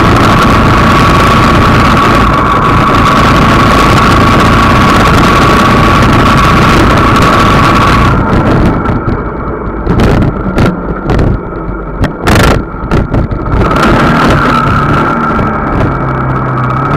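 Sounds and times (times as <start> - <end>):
vehicle engine: 0.0 - 16.9
wind rush on microphone: 0.0 - 16.9.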